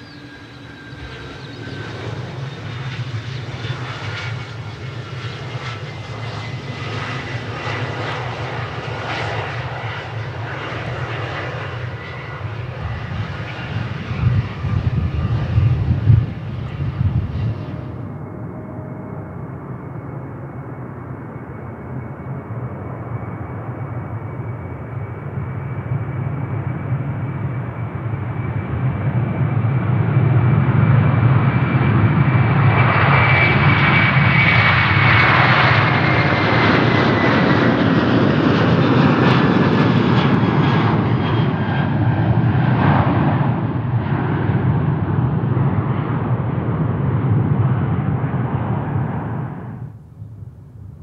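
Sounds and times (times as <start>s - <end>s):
jet airliner taking off: 0.0s - 51.0s.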